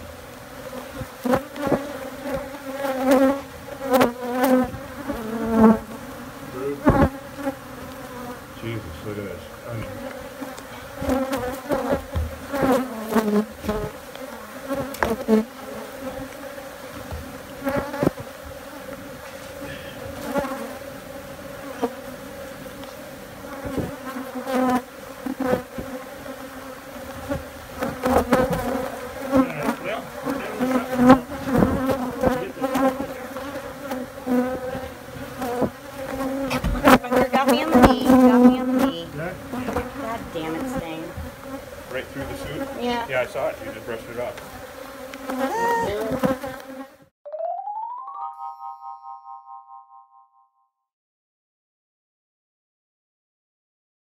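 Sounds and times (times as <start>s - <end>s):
bees buzzing: 0.0s - 47.1s.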